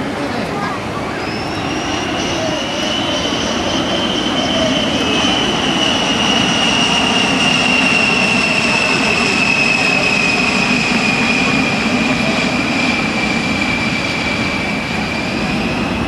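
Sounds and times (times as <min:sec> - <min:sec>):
jet engines high whine: 0:00.0 - 0:16.0
rushing engine noise: 0:00.0 - 0:16.0.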